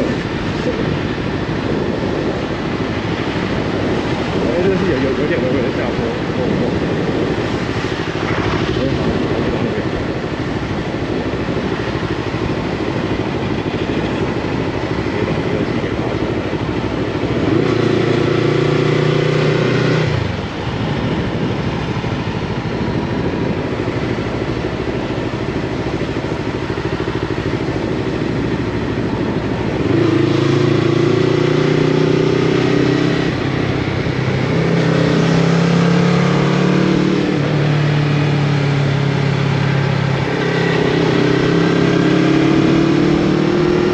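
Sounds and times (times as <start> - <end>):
motorcycle engine revving: 0.0 - 43.9
wind and road rush: 0.0 - 43.9.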